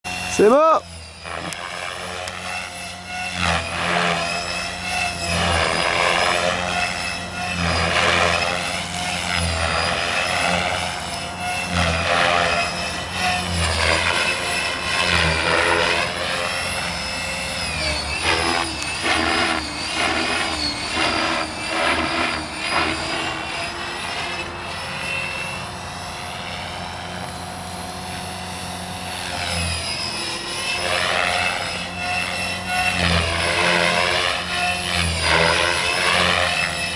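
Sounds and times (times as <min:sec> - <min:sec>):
rc helicopter motor whine: 0:00.0 - 0:36.9
low rotor throb: 0:00.1 - 0:36.9.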